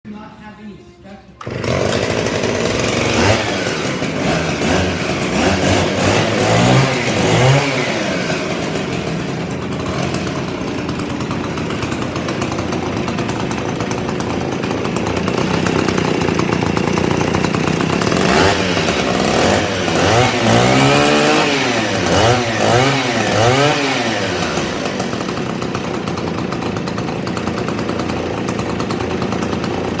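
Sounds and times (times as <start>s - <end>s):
chainsaw revving: 1.4s - 30.0s.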